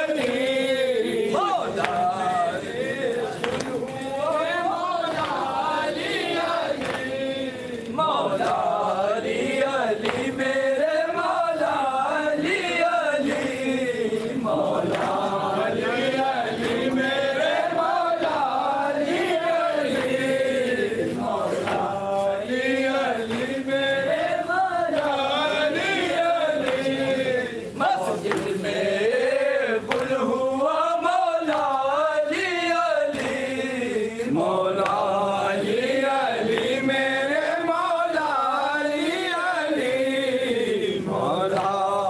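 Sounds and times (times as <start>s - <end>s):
men chanting a lament: 0.0s - 42.0s.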